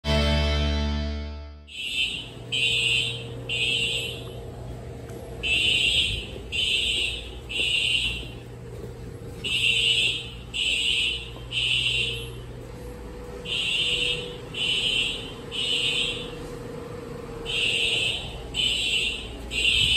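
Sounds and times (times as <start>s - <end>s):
fire alarm horn blasts: 0.1s - 4.5s, 5.4s - 8.5s, 9.3s - 19.9s
faint steady hum: 1.7s - 19.9s.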